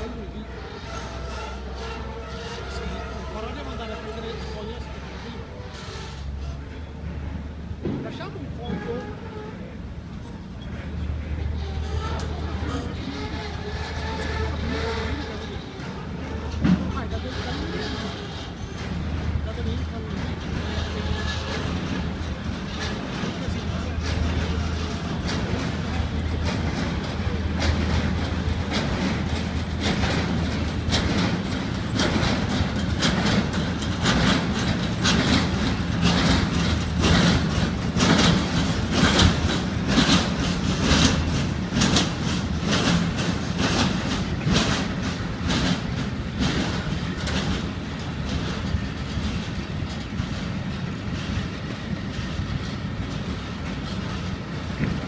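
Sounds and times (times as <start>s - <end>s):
train rumble: 0.0s - 55.0s
train wheels clattering over joints: 0.0s - 55.0s.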